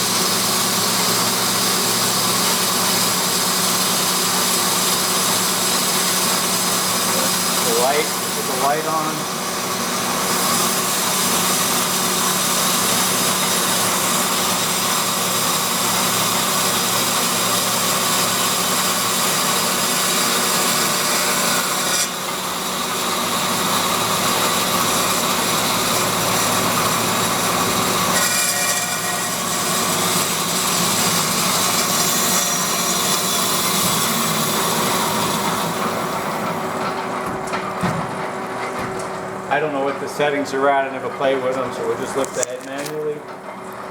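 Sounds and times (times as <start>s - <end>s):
bandsaw cutting wood: 0.0s - 43.3s.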